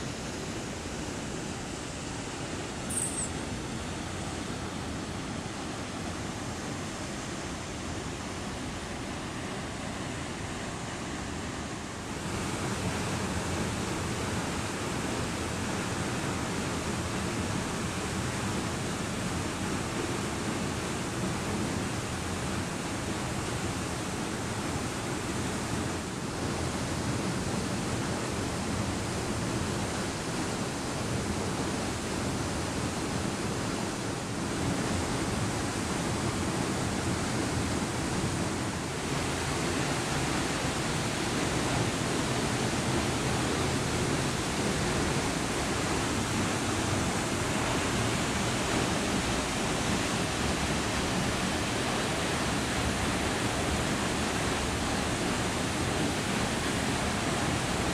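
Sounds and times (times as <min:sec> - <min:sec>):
waterfall roaring: 0:00.0 - 0:57.9.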